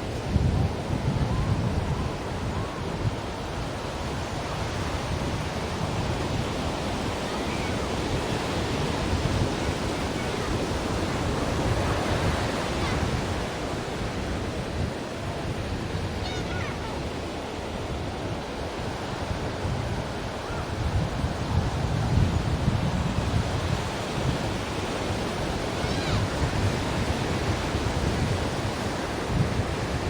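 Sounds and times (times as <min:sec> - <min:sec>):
ocean surf rushing ashore: 0:00.0 - 0:30.0.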